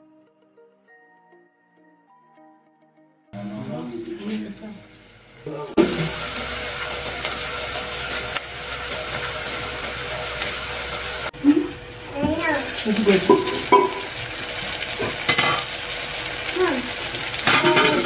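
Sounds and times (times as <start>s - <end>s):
onions frying in hot oil: 3.4s - 18.0s.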